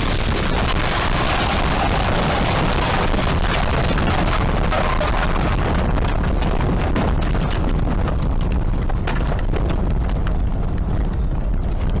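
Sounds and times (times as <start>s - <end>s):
sharp cracks and knocks: 0.0s - 12.0s
wind buffeting microphone: 0.0s - 12.0s.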